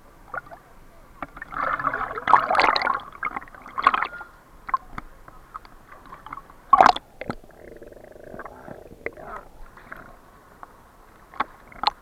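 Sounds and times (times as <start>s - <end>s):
water sloshing and gurgling: 0.2s - 10.5s, 11.1s - 12.0s.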